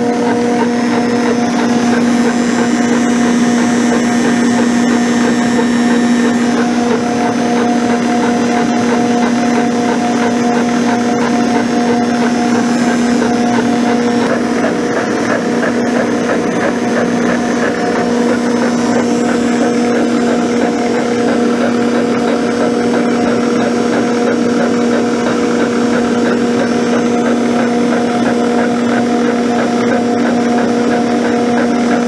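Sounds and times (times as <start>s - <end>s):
end mill grinding cast iron: 0.0s - 32.0s
milling machine hum: 0.0s - 32.0s.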